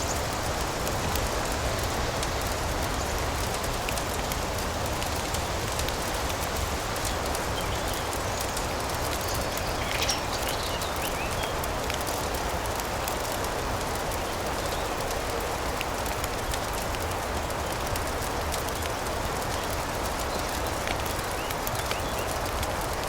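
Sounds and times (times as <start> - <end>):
fireplace crackle: 0.0 - 23.0
rain: 0.0 - 23.0.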